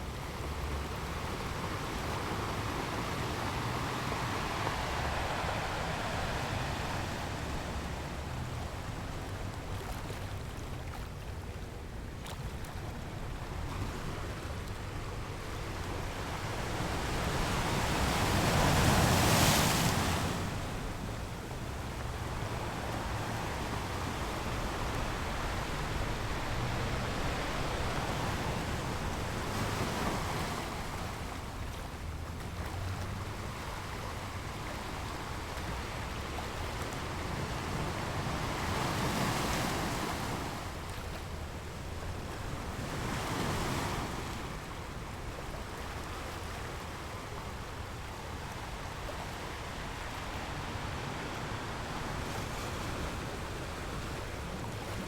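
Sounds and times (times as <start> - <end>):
surf washing on sandy beach: 0.0 - 55.0.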